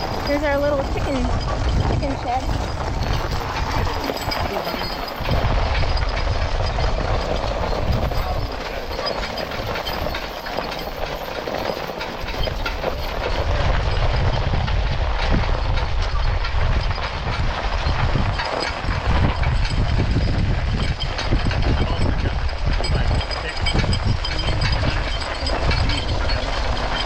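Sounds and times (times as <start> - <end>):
horse-drawn cart rattling: 0.0 - 27.0.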